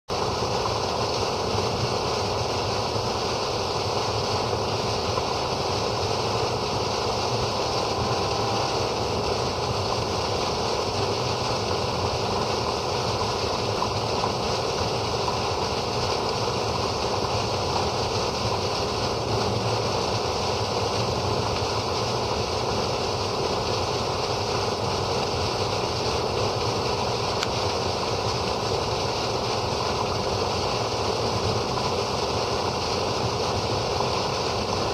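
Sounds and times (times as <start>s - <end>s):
water gushing onto ground: 0.1s - 34.9s.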